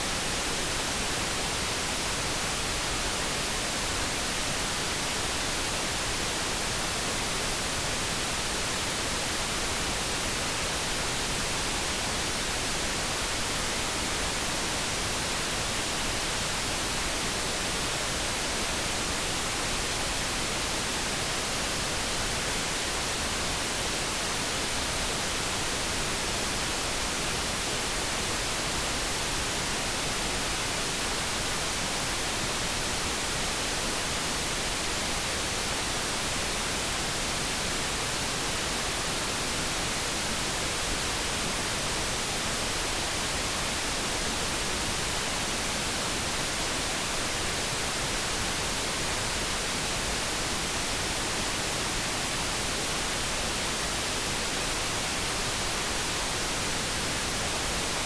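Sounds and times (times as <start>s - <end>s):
steady brown noise hiss: 0.0s - 58.0s.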